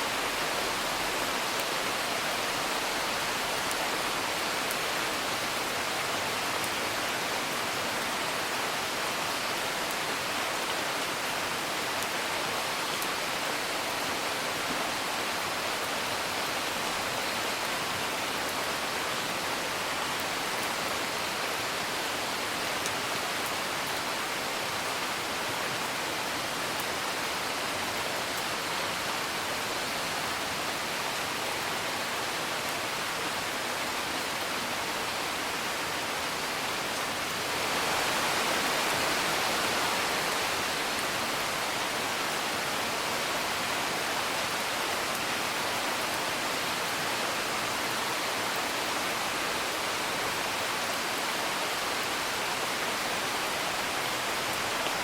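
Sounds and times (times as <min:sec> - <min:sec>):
rain heard from indoors: 0:00.0 - 0:55.0.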